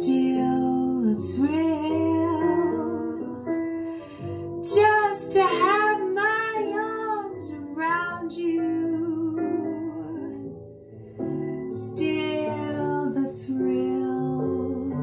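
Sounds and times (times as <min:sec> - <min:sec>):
woman singing jazz ballad: 0:00.0 - 0:10.5, 0:11.6 - 0:15.0.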